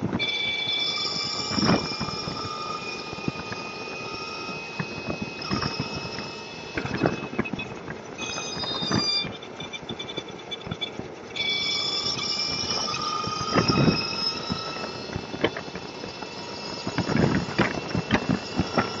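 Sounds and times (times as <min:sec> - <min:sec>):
high whining tones: 0:00.0 - 0:19.0.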